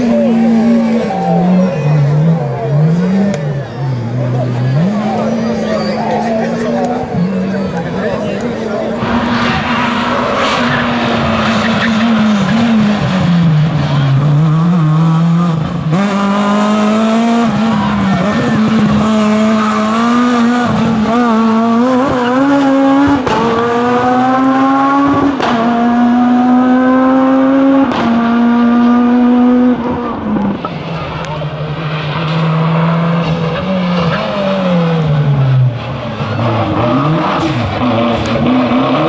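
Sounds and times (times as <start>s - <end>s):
rally car engine revving with gear changes: 0.0s - 39.0s.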